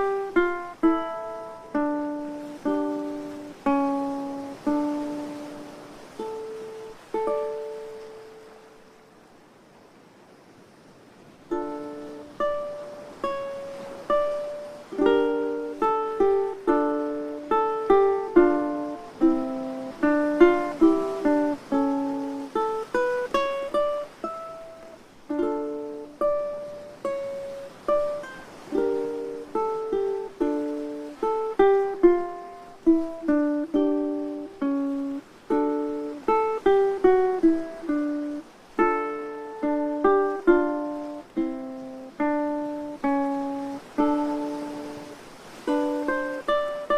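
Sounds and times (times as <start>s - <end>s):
ukulele melody over chords: 0.0s - 8.8s, 11.5s - 46.9s.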